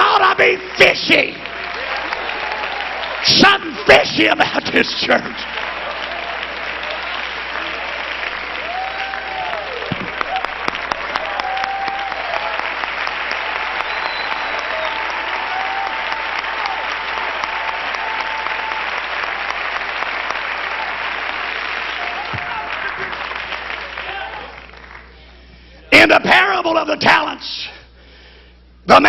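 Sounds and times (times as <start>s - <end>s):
crowd applauding: 0.0s - 25.4s.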